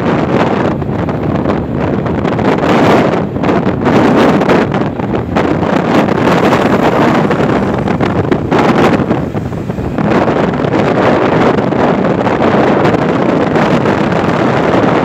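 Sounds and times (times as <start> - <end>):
road traffic: 0.0 - 15.0
wind buffeting microphone: 0.0 - 15.0.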